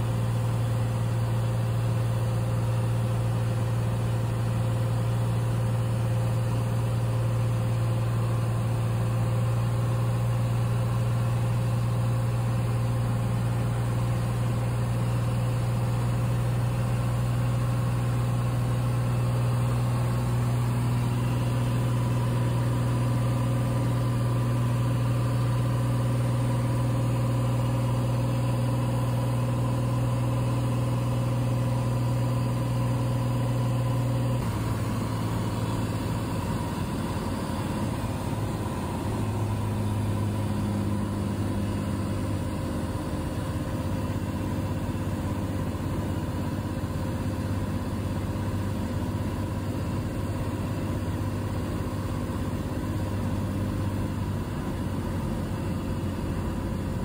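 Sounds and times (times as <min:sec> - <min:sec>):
plane engine droning in cabin: 0:00.0 - 0:57.0.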